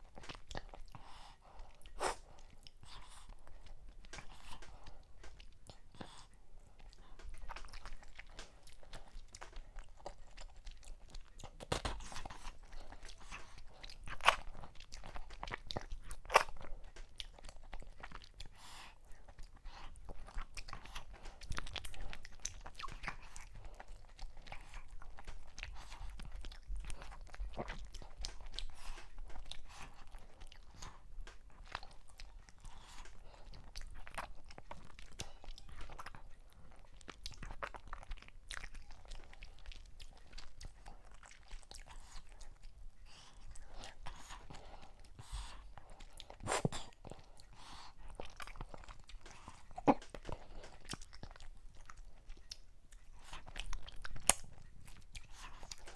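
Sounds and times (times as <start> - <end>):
chewing and lip smacks: 0.0 - 55.9.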